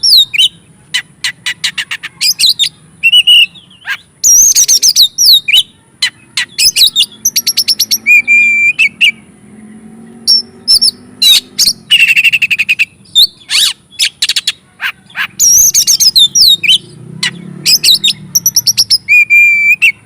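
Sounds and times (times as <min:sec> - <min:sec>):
bird singing whistles and trills: 0:00.0 - 0:09.3, 0:10.2 - 0:20.0.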